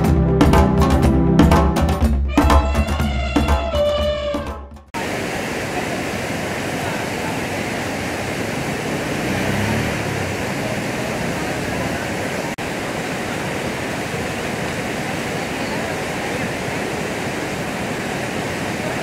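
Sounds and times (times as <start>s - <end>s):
flowing canal water: 2.3s - 19.0s.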